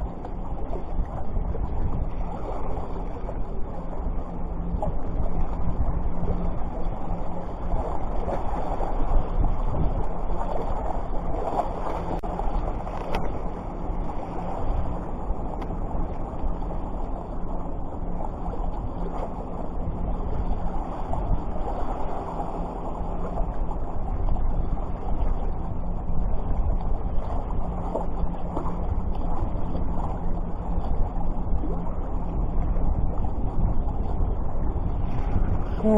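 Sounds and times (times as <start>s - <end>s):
sea water washing: 0.0s - 35.9s
wind rumbling on microphone: 0.0s - 35.9s.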